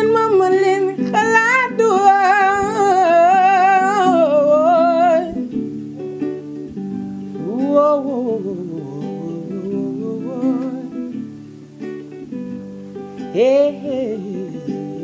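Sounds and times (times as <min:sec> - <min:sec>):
person singing with vibrato: 0:00.0 - 0:05.8, 0:07.3 - 0:15.0
acoustic guitar accompaniment: 0:00.0 - 0:15.0.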